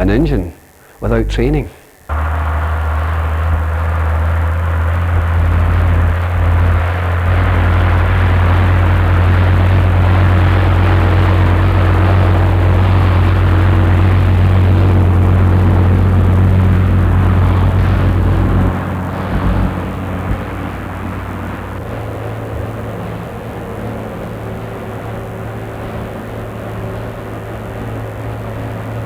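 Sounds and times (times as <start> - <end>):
lorry diesel engine drone: 0.0 - 29.0
road and tyre noise: 2.0 - 29.0.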